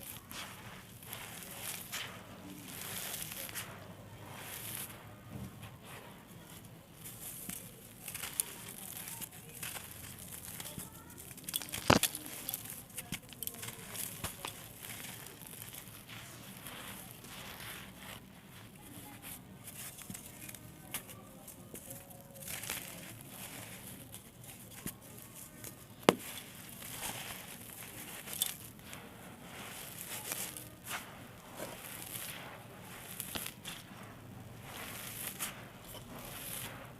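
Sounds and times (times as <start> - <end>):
dirt crumbling and crackling: 0.0 - 36.9.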